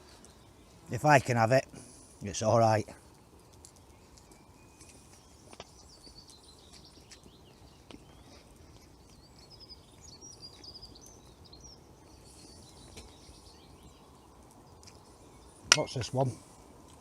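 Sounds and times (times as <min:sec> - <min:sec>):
songbirds chirping and warbling: 0:00.0 - 0:17.0.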